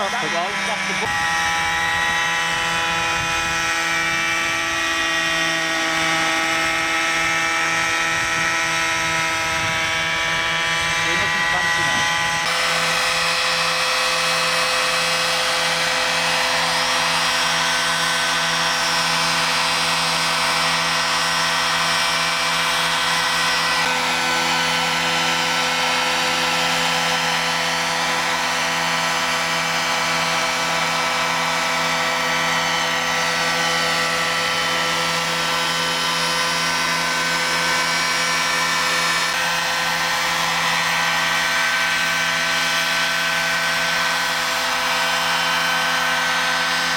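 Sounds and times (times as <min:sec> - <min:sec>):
model helicopter engine whine: 0:00.0 - 0:46.9
rotor noise: 0:00.0 - 0:46.9.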